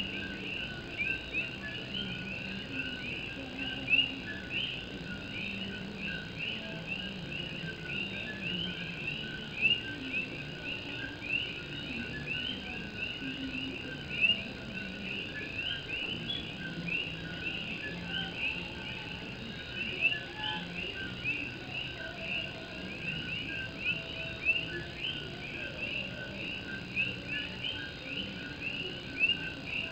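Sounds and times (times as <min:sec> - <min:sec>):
chorus of frogs calling: 0:00.0 - 0:29.9.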